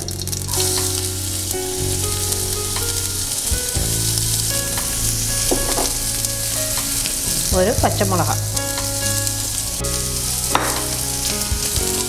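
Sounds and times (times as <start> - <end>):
onions sizzling in hot oil: 0.0 - 11.7.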